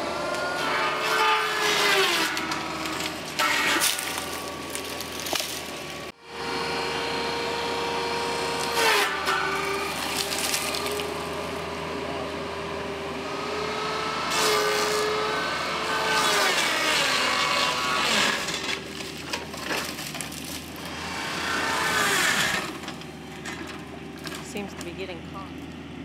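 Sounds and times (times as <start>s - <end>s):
saw cutting through tree limbs: 0.0s - 25.6s.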